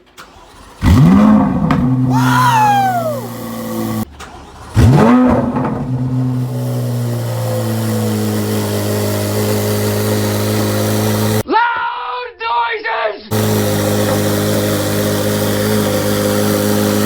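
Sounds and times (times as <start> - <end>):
car engine revving and idling: 0.2 - 11.4, 13.3 - 17.0.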